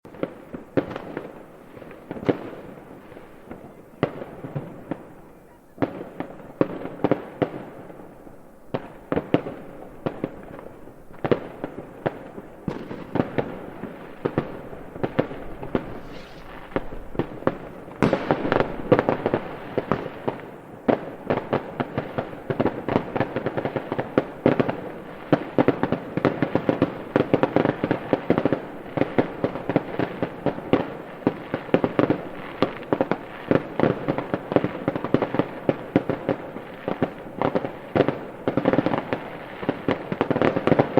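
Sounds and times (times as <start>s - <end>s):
fireworks bangs and crackles: 0.1s - 40.9s.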